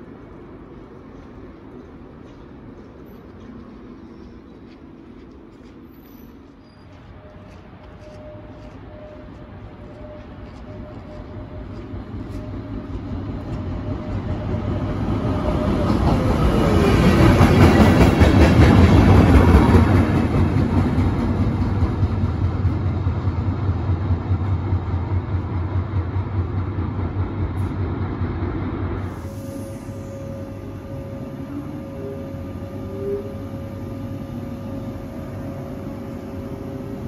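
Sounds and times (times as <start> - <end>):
train passing at speed: 0.0 - 37.0.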